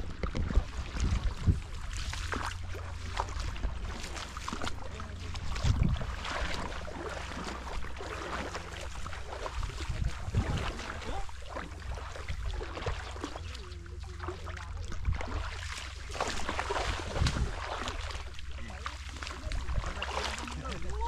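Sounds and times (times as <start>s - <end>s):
footsteps wading through water: 0.0s - 21.0s
wind rumble on microphone: 0.0s - 21.0s.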